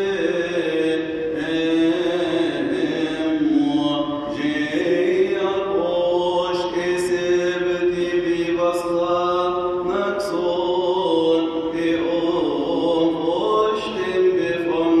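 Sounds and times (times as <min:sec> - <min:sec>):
man chanting in long held notes: 0:00.0 - 0:15.0.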